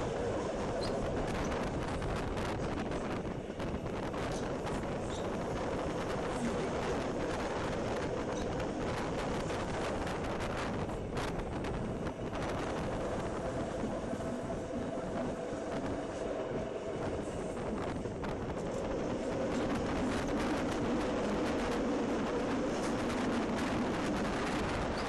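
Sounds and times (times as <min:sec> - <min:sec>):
faint train whine: 0:00.0 - 0:25.0
train wheels rumbling on rails: 0:00.0 - 0:25.0.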